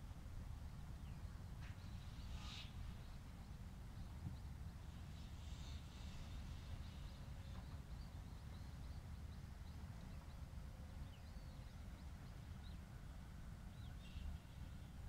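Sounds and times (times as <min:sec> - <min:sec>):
small birds chirping: 0:00.9 - 0:13.1.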